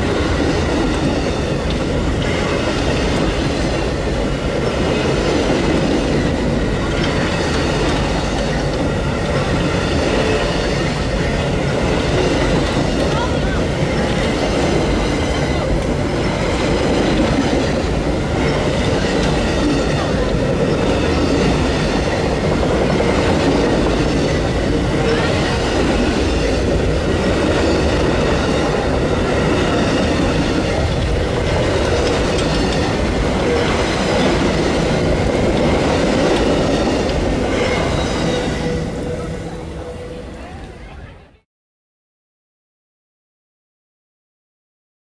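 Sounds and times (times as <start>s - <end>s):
train wheels rolling on rails: 0.0s - 41.1s.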